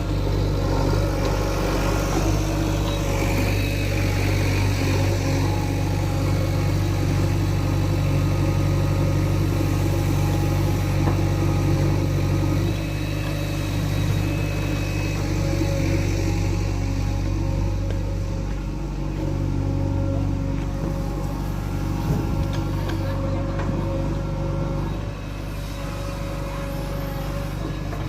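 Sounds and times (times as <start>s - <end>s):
heavy machinery diesel engine running: 0.0s - 28.0s.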